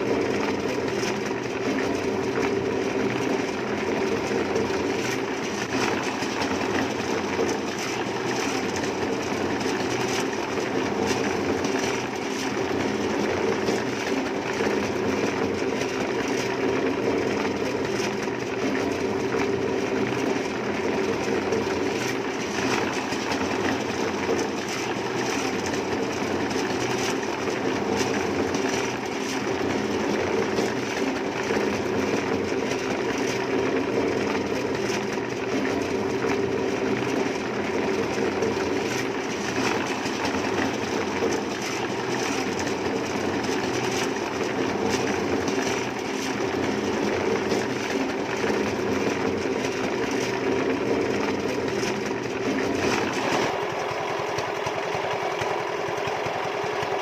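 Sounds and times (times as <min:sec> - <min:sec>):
machine humming and rattling: 0:00.0 - 0:57.0.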